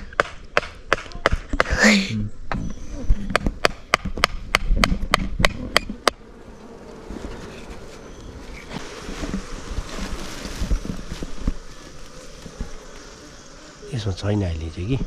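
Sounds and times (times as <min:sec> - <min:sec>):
honeybees buzzing: 0:02.4 - 0:15.0.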